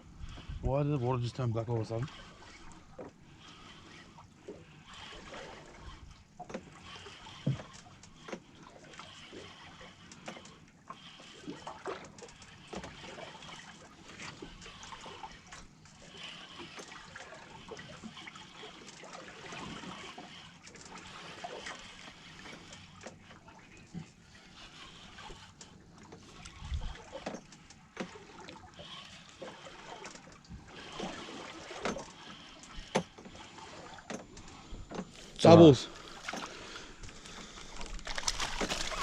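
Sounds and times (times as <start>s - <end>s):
water lapping against boat hull: 0.0s - 39.0s.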